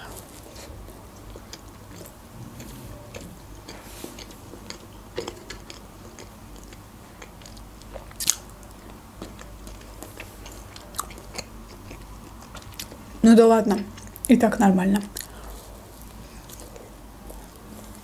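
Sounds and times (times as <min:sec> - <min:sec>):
chewing soft pastry: 0:00.0 - 0:18.0.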